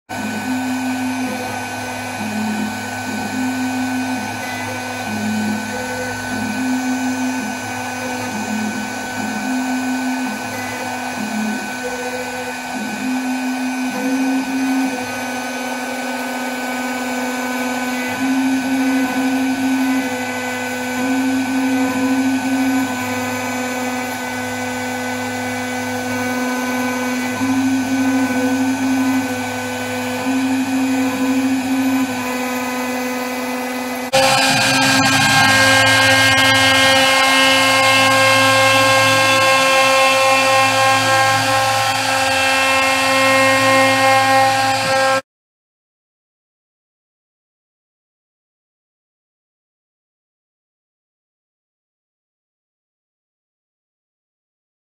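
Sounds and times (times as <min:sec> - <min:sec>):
router cutting wood: 0:00.0 - 0:45.2
router spindle whine: 0:00.0 - 0:45.2
low hum changing pitch: 0:00.1 - 0:45.2.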